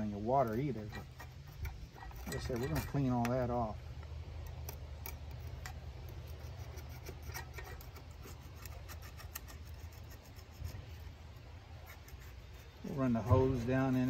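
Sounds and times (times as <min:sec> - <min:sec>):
scraping on metal: 0:00.0 - 0:14.0.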